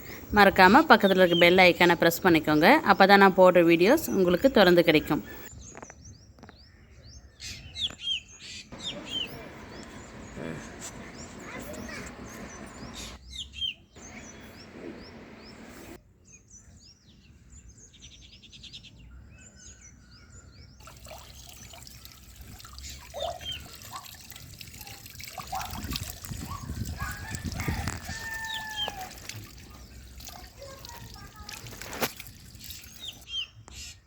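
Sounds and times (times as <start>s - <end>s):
birds chirping: 0.0s - 16.0s, 21.1s - 33.9s.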